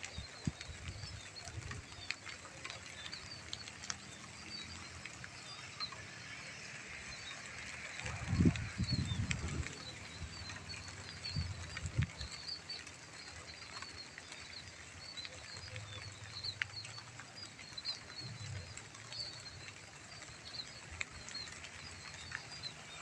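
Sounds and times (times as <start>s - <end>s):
light rain hissing: 0.0s - 23.0s
raindrop clicks: 0.0s - 23.0s
small birds chirping: 0.0s - 23.0s.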